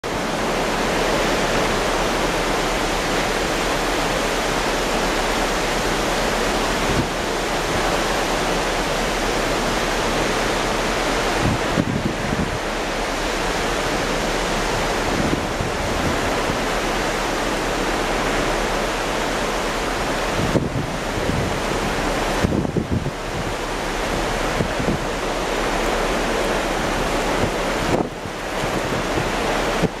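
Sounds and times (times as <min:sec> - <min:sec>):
waves washing: 0:00.0 - 0:30.0
wind buffeting microphone: 0:00.0 - 0:30.0
wind over sea: 0:00.0 - 0:30.0.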